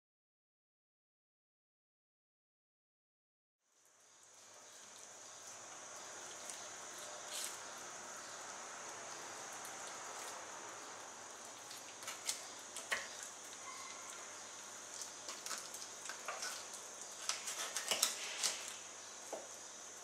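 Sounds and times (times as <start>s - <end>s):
steady hiss: 3.7s - 20.0s.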